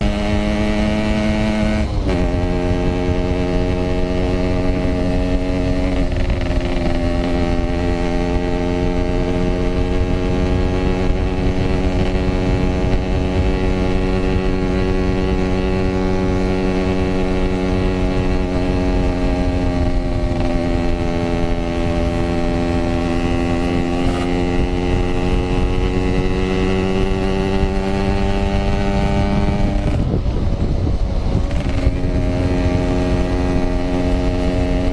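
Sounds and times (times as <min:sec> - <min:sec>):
motorcycle two-stroke engine: 0:00.0 - 0:34.9
wind and road rumble: 0:00.0 - 0:34.9.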